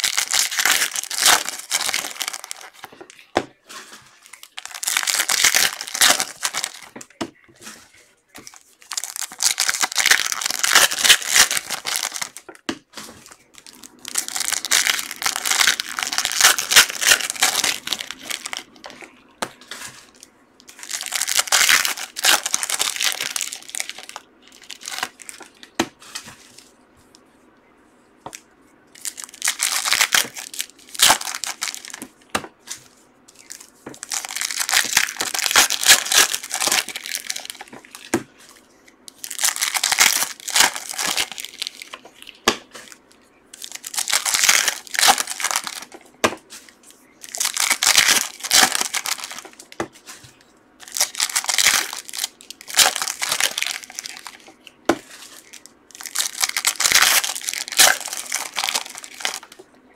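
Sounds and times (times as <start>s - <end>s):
foil wrappers tearing and crinkling: 0.0s - 3.0s, 4.0s - 7.0s, 8.4s - 12.5s, 13.2s - 25.8s, 29.0s - 32.1s, 32.7s - 42.1s, 43.6s - 46.0s, 46.6s - 59.6s.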